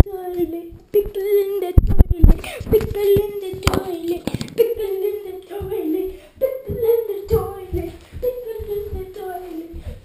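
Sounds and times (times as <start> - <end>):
child singing wordless tune: 0.0 - 10.0.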